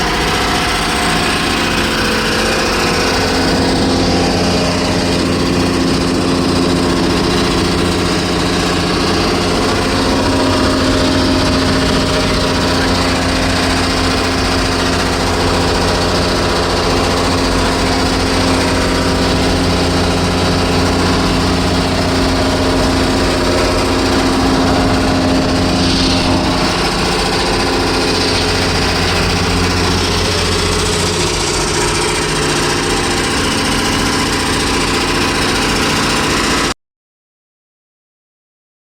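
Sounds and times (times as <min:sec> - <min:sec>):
motor running loudly: 0:00.0 - 0:36.8.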